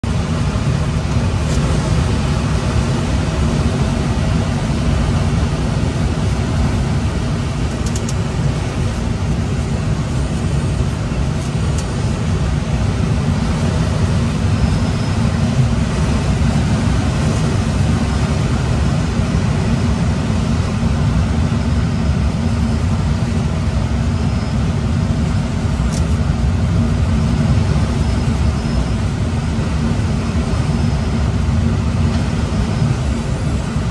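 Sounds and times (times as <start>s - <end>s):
wind rushing around cockpit: 0.0s - 33.9s.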